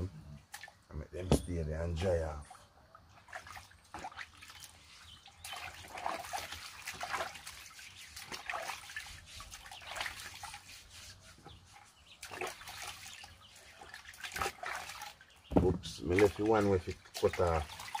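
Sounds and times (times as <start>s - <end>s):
water splashing in a plastic bucket: 0.4s - 18.0s.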